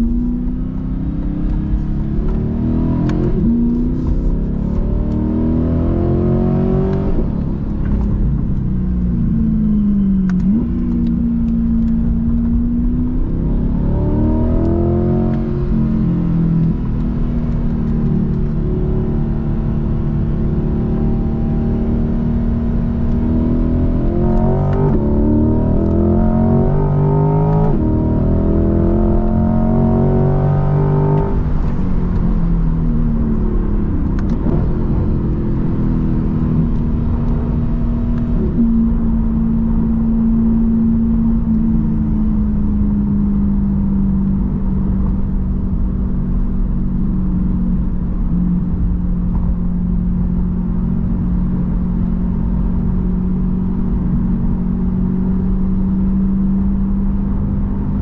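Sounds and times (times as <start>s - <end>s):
car engine revving and droning: 0.0s - 58.0s
road and tyre noise: 0.0s - 58.0s.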